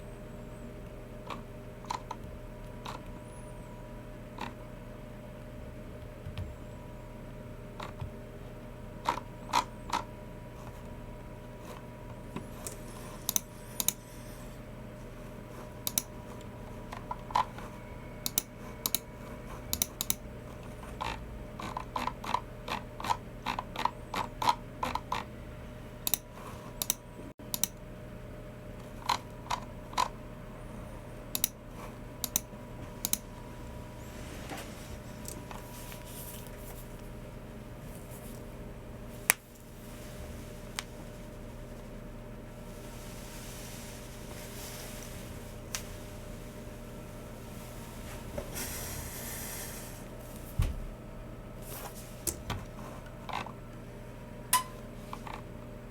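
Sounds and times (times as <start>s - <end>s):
faint hum: 0.0s - 55.9s.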